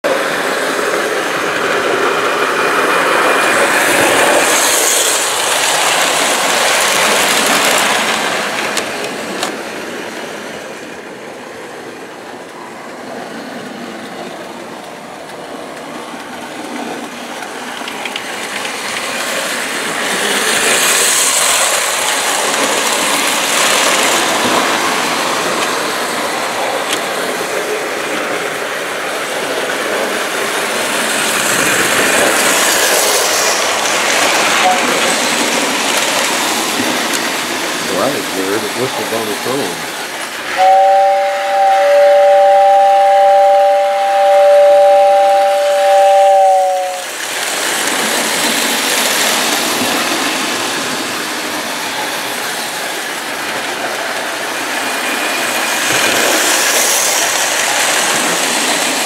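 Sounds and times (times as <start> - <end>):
model train whirring rattle: 0.1 - 10.9, 14.8 - 40.7, 45.9 - 59.0.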